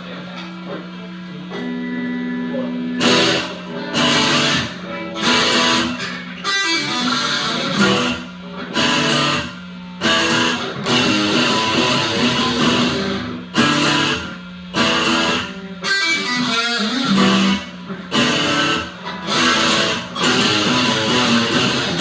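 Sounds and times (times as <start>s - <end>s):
amplifier hum: 0.0s - 22.0s
strummed electric guitar chords: 0.0s - 22.0s.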